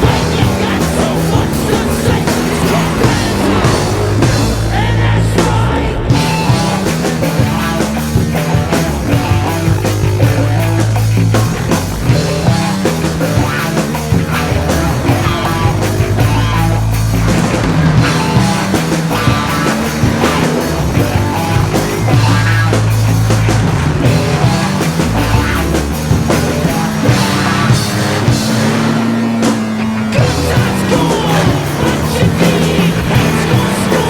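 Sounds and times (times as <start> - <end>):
loud rock music: 0.0 - 34.0.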